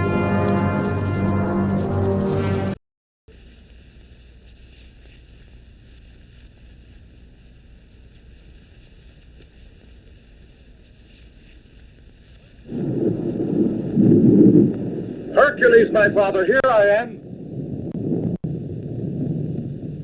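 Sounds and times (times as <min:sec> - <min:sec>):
film soundtrack hiss and hum: 0:00.0 - 0:20.0.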